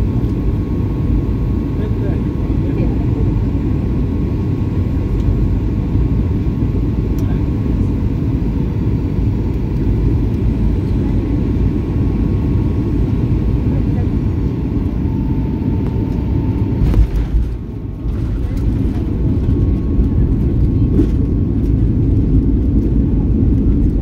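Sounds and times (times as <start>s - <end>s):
engine and airflow rumble: 0.0s - 24.0s.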